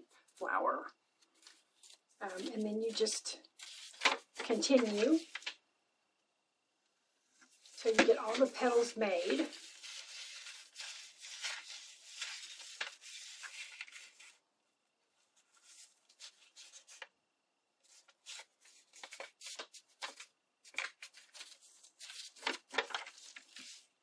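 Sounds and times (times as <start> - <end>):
paper rustling and crinkling: 1.2 - 5.6, 7.4 - 14.4, 15.2 - 17.2, 17.8 - 24.0.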